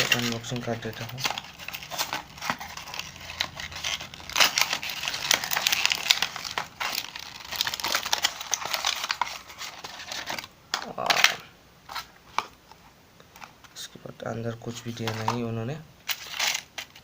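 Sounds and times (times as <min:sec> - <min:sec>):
packaging crinkling and rustling: 0:00.0 - 0:12.5, 0:14.7 - 0:17.0.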